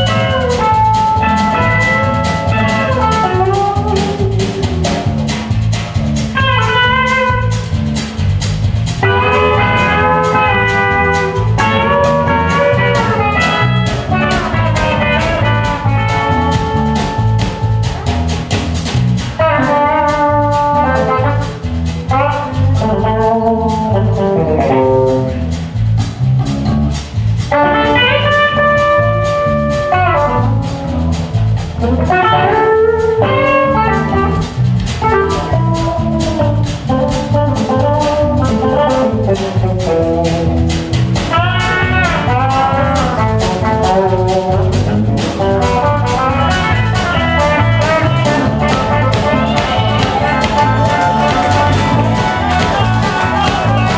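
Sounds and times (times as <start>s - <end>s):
lead guitar: 0.0s - 53.9s
steady drum beat: 0.0s - 53.9s.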